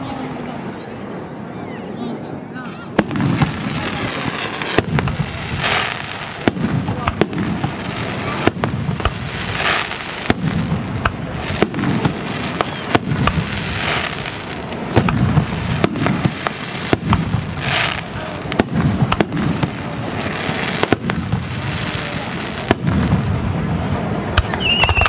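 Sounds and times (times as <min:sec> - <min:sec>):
fireworks hissing: 0:00.0 - 0:25.0
fireworks bangs: 0:02.4 - 0:25.0.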